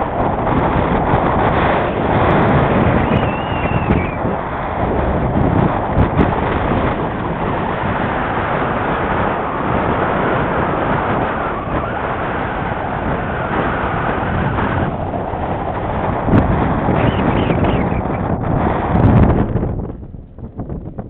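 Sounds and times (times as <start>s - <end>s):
air rushing over microphone: 0.0s - 21.0s.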